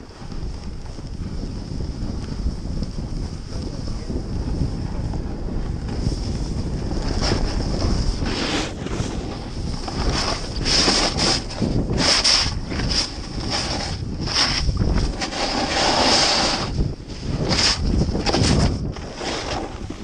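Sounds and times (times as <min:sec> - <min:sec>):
skis scraping through snow: 0:00.0 - 0:20.0
wind buffeting microphone: 0:00.0 - 0:20.0.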